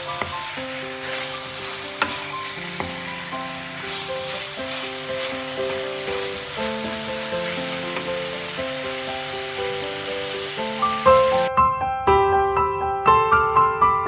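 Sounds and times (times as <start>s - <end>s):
food sizzling in a pan: 0.0s - 11.5s
slow background music: 0.0s - 11.5s.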